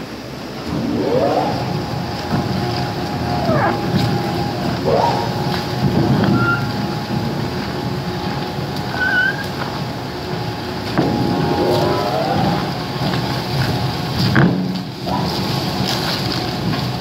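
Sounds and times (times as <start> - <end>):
industrial shredder grinding paper: 0.6 - 17.0.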